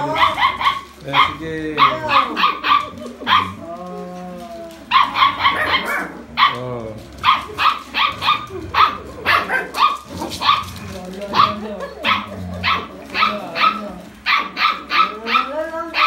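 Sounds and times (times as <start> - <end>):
puppies barking and yipping: 0.0 - 3.7, 4.7 - 16.0.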